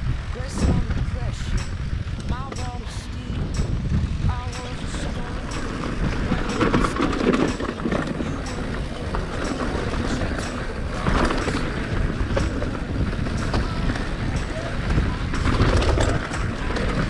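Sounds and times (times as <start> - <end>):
bike clicking and rattling: 0.0 - 17.0
wind on microphone: 0.0 - 17.0.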